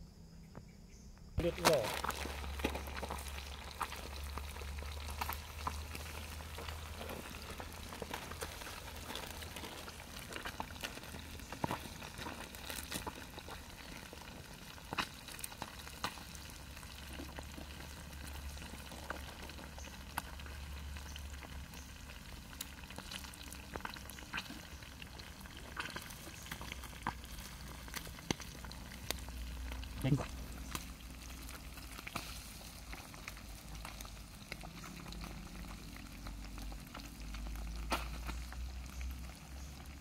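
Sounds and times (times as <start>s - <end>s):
fish sizzling in hot oil: 1.4s - 40.0s
oil popping: 1.4s - 40.0s.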